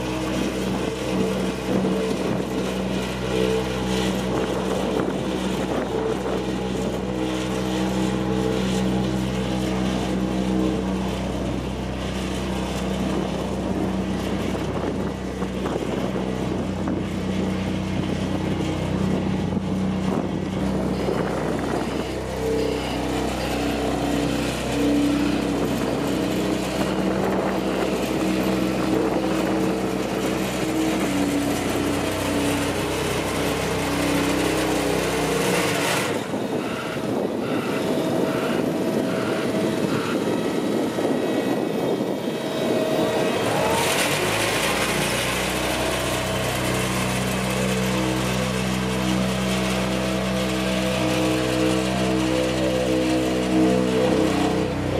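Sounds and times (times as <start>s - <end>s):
asphalt roller diesel engine: 0.0s - 54.9s
second machine engine: 0.0s - 54.9s.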